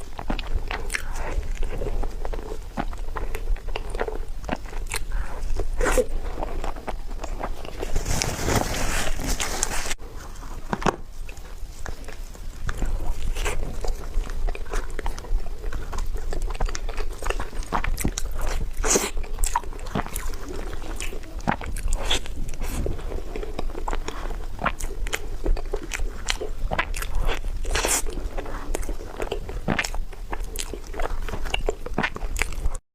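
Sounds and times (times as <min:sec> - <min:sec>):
biting and chewing: 0:00.0 - 0:32.8.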